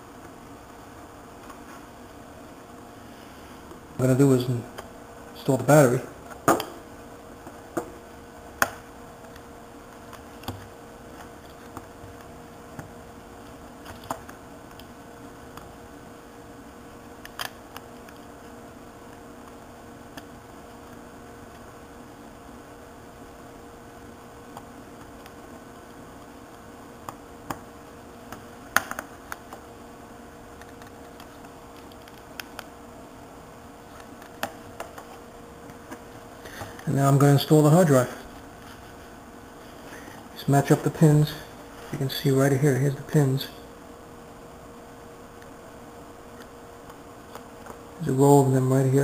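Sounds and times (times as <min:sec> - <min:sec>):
faint steady hum: 0:00.0 - 0:49.0
steady background hiss: 0:00.0 - 0:49.0.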